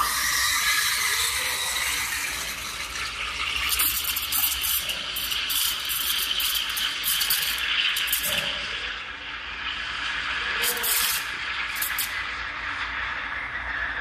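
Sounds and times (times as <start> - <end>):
steam wand hissing and gurgling: 0.0 - 14.0.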